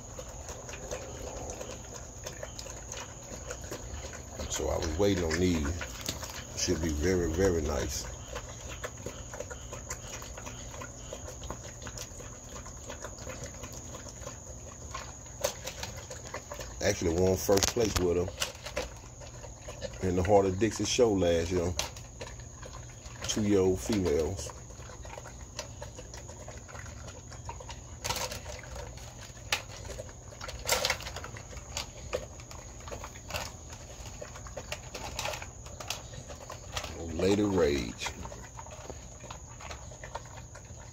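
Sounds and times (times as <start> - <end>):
dog crunching kibble: 0.0 - 40.9.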